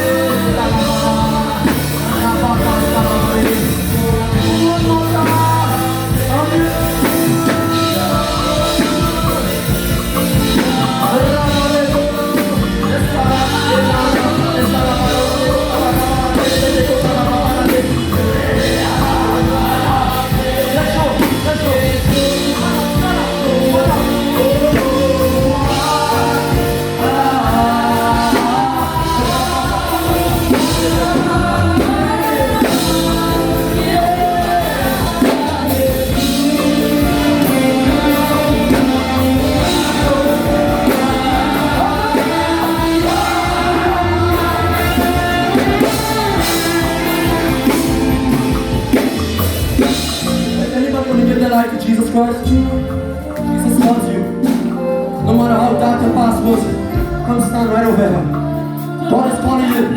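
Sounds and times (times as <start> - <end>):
band with drums: 0.0 - 59.9
person singing: 0.0 - 59.9.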